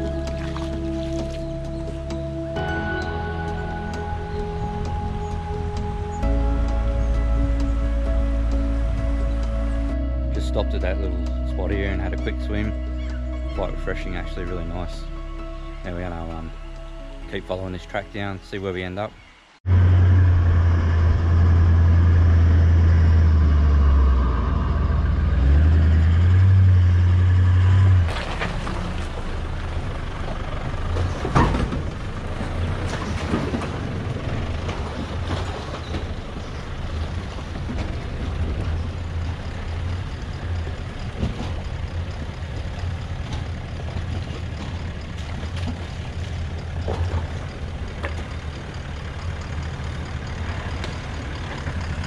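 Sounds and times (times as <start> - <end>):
vehicle engine droning: 0.0 - 52.0.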